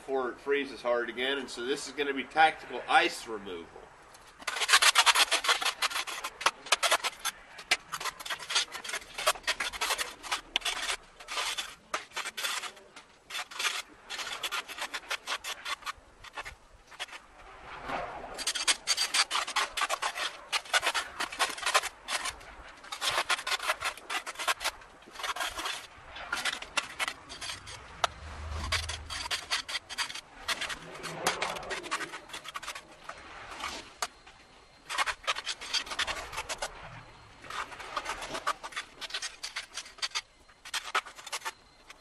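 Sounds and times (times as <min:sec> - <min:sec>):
ice scraper scraping ice: 0:04.4 - 0:17.3, 0:18.4 - 0:34.2, 0:34.8 - 0:42.0.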